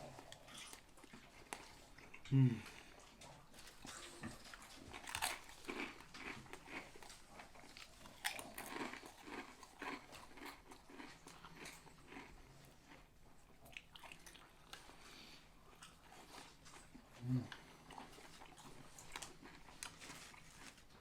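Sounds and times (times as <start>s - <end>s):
person chewing sandwich: 0.0s - 21.0s.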